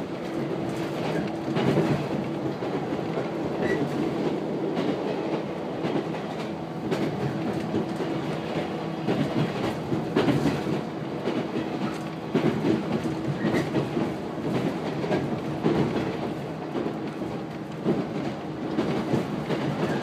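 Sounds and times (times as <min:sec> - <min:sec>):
steady train hum: 0:00.0 - 0:20.0.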